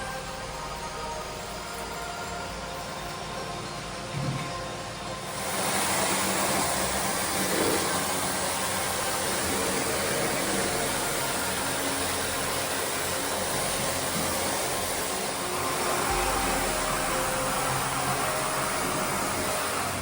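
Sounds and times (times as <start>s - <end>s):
machine hissing and whirring: 0.0s - 20.0s.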